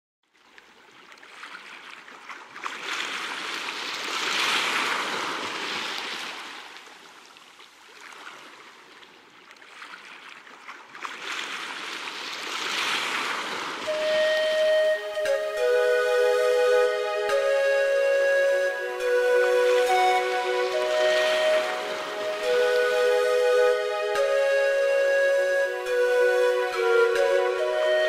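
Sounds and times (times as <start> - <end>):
waves washing in: 1.0 - 9.0, 9.6 - 28.0.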